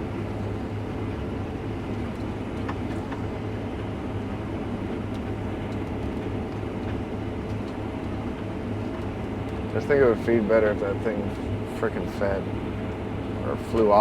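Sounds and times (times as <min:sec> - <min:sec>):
combine harvester engine drone: 0:00.0 - 0:14.0.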